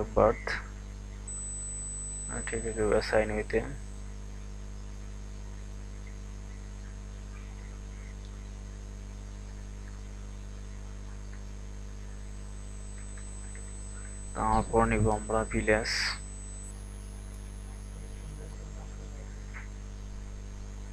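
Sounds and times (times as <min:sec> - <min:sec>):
electrical mains hum: 0:00.0 - 0:20.9.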